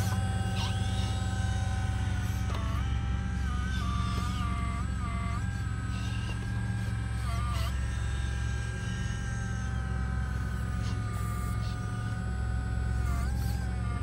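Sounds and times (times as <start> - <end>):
high whine: 0.0 - 14.0
model engine-like drone: 0.0 - 14.0.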